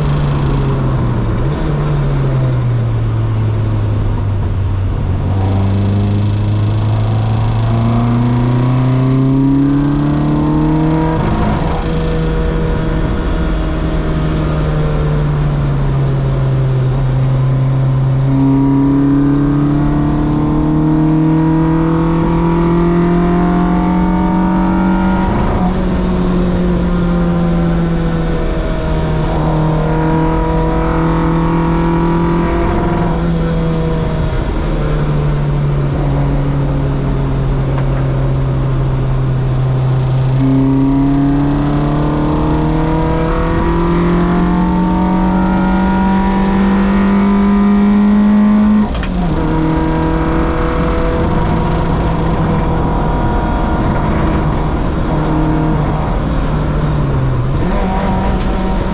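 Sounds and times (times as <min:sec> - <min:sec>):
car engine accelerating through gears: 0:00.0 - 0:58.9
road and wind noise: 0:00.0 - 0:58.9.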